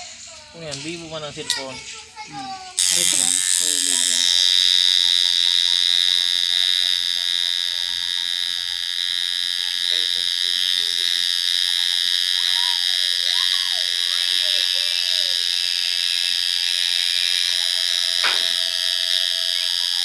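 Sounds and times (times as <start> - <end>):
tattoo machine buzzing: 2.4 - 20.0.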